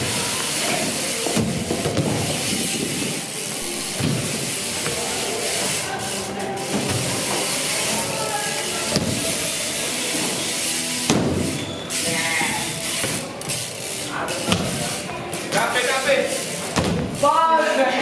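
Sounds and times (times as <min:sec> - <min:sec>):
bike tyres hissing on plywood: 0:00.0 - 0:17.4
bike freewheel buzzing: 0:00.0 - 0:17.5.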